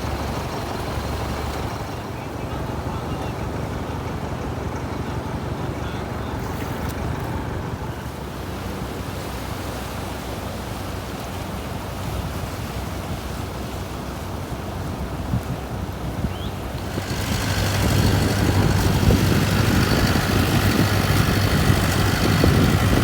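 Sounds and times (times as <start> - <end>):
sea surf rushing: 0.0 - 23.0
wind: 0.0 - 23.0.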